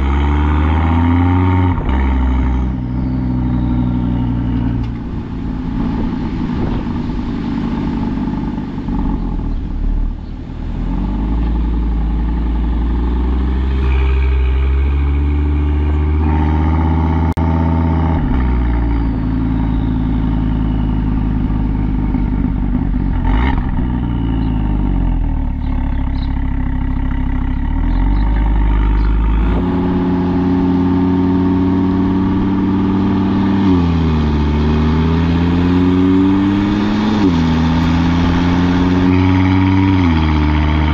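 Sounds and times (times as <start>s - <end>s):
five-cylinder engine accelerating: 0.0s - 40.9s.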